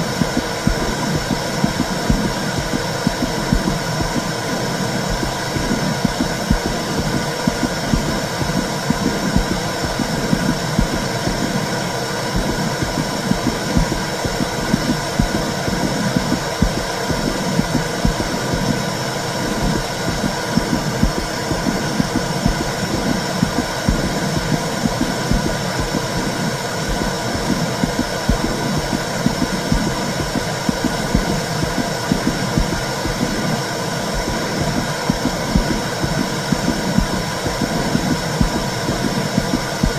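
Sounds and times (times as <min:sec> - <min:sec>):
low rhythmic pulsing: 0:00.0 - 0:39.9.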